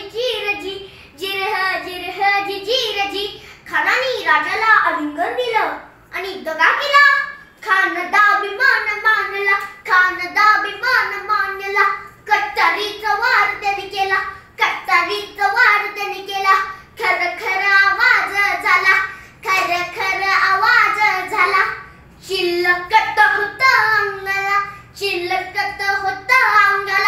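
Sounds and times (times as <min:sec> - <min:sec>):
boy singing unaccompanied: 0:00.0 - 0:27.0.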